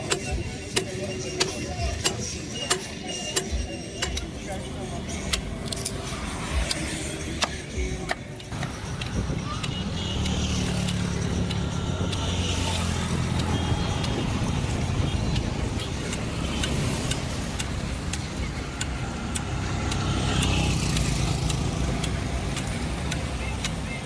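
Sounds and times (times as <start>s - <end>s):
car engine drone: 0.0s - 24.0s.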